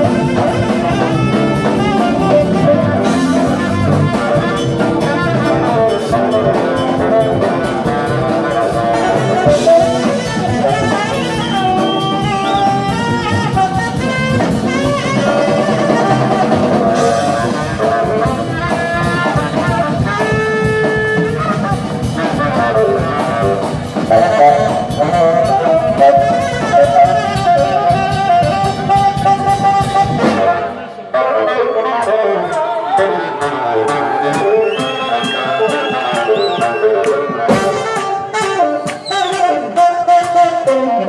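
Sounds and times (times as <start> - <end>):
drum kit: 0.0 - 31.0, 32.0 - 41.0
bass guitar: 0.0 - 41.0
horn section playing: 0.0 - 41.0.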